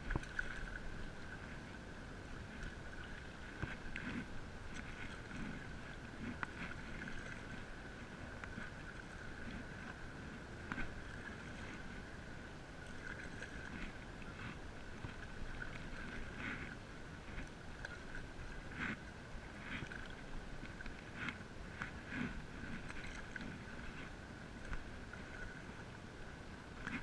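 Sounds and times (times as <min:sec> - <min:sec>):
paddle splashing through water: 0:00.0 - 0:27.0.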